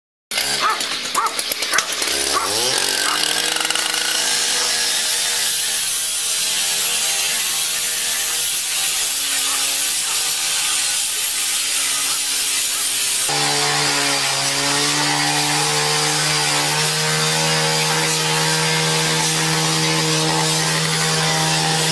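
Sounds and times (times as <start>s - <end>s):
disc cutter grinding metal: 0.4s - 21.9s.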